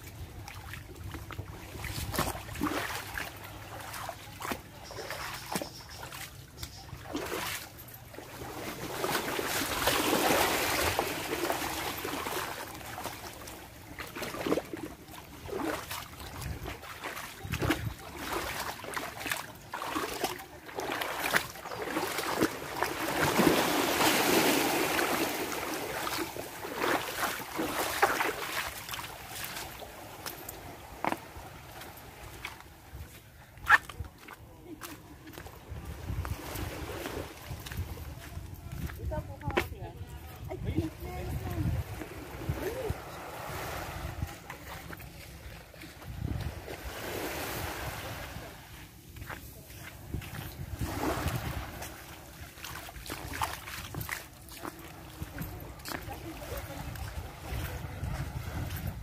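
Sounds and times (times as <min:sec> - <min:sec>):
small waves lapping on rocks: 0:00.0 - 0:39.9, 0:40.6 - 0:59.0.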